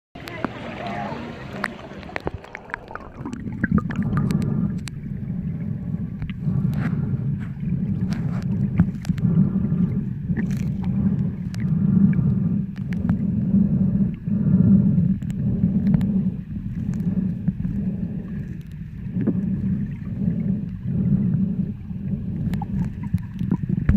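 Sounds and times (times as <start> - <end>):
underwater rush of water: 0.2 - 23.9.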